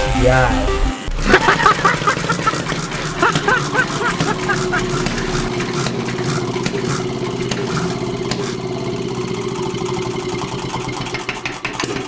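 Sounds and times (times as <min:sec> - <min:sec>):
small gasoline engine running: 0:01.0 - 0:12.0.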